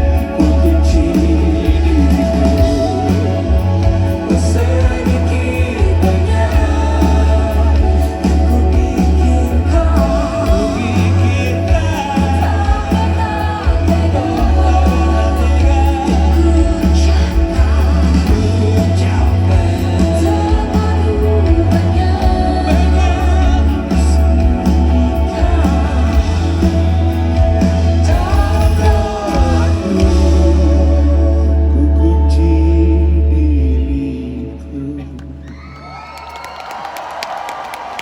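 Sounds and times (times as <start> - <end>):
live band playing pop-rock: 0.0 - 33.8
heavy steady bass: 0.0 - 35.4
person singing: 0.0 - 35.6.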